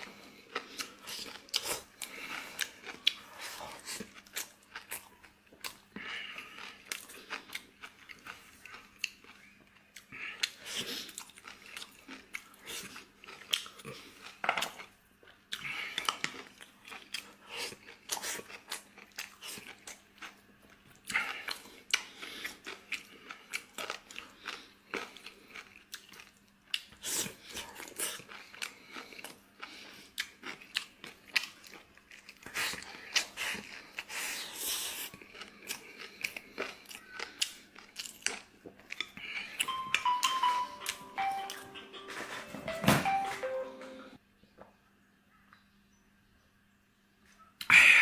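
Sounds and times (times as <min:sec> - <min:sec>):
person chewing and crunching: 0:00.0 - 0:42.5.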